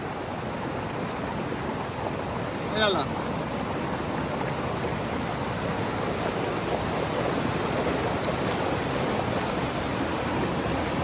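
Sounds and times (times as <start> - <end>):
river water flowing over rocks: 0.0 - 11.0.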